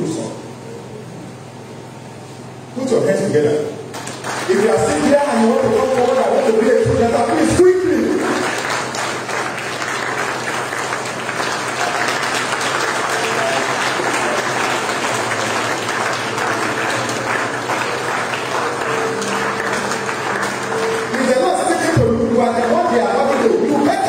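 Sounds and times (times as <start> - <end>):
crowd applauding: 3.9 - 24.0.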